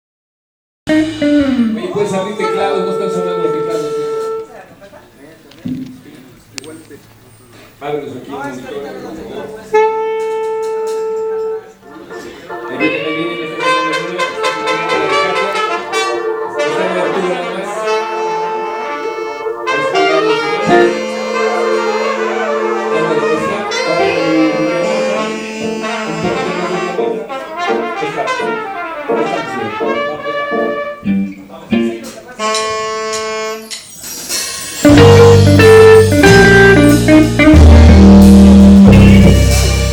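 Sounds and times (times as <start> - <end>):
live brass band music: 0.9 - 4.8, 9.6 - 39.9.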